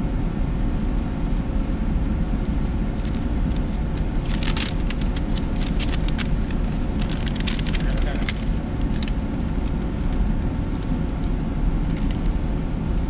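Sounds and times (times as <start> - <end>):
faint steady hum: 0.0 - 13.0
low rumble of room noise: 0.0 - 13.0.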